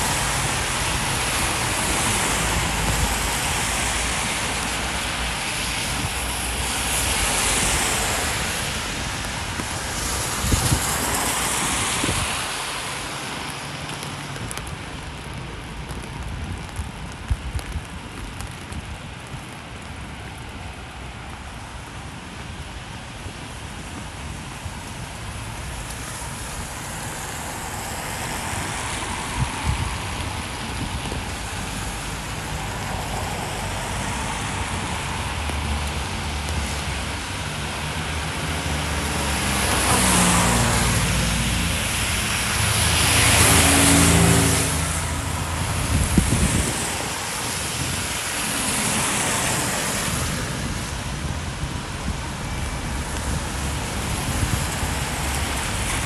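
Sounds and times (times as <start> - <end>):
rain hiss: 0.0 - 56.0
tyres hissing on wet road: 0.0 - 56.0.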